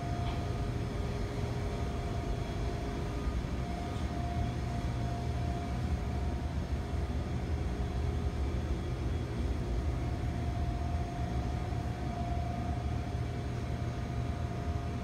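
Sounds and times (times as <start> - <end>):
kitchen machinery drone: 0.0 - 15.0.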